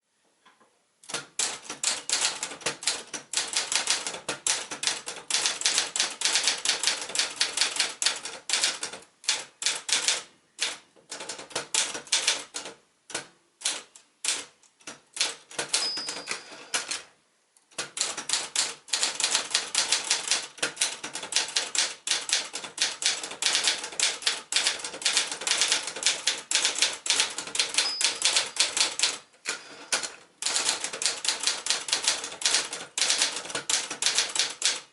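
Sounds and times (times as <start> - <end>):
manual typewriter typing: 1.1 - 17.1, 17.7 - 34.9.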